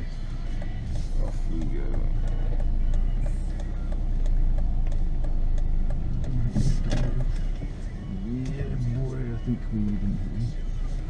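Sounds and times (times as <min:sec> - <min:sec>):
car engine hum from cabin: 0:00.0 - 0:11.0.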